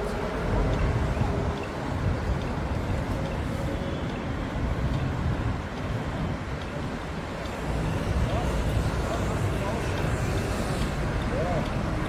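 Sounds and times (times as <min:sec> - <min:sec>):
traffic engines and tyres: 0:00.0 - 0:12.0.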